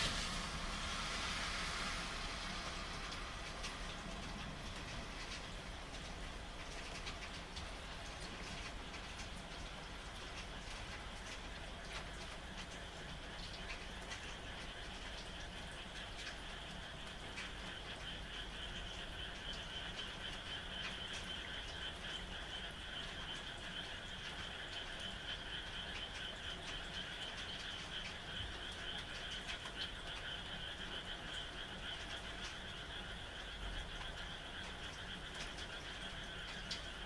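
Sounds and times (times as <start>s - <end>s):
frogs chorus calling: 0.0s - 37.0s
light rain pattering: 0.0s - 37.0s.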